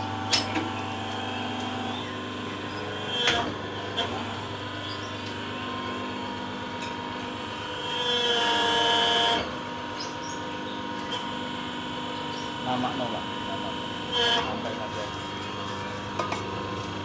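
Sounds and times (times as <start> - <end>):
machine motor and pump hum: 0.0 - 17.0.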